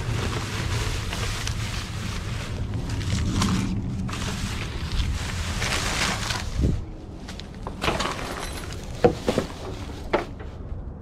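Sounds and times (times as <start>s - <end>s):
plastic bag rustling: 0.0s - 10.6s
wind rumbling on microphone: 0.0s - 11.0s.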